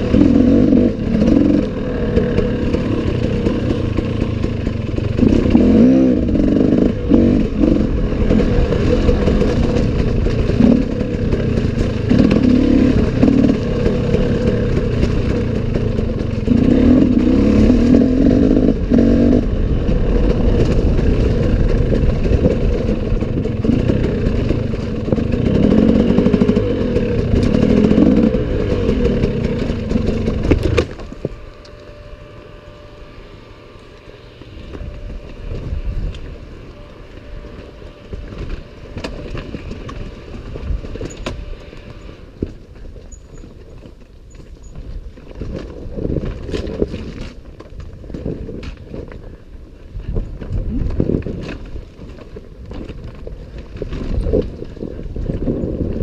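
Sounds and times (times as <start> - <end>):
rattling and clatter: 0.0 - 31.5, 37.2 - 56.0
motorcycle engine running hard: 0.0 - 56.0.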